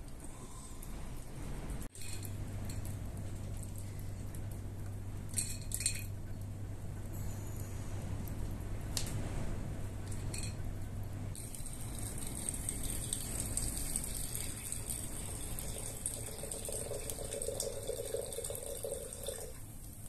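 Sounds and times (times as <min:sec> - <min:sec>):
low running water: 0:00.0 - 0:20.0.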